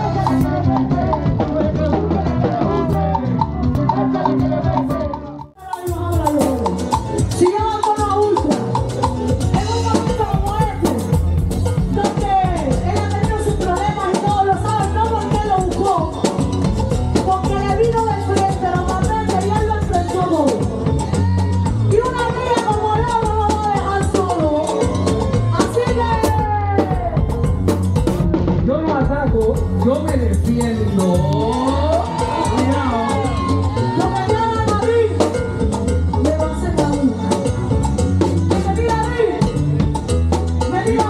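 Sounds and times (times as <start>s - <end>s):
upbeat latin song with vocals: 0.0s - 41.0s.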